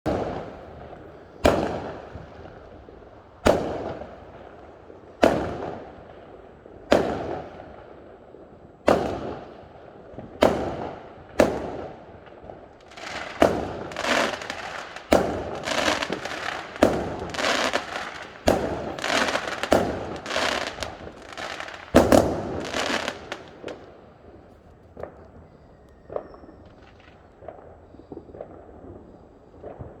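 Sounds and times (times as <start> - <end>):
fireworks exploding: 0.1 - 30.0.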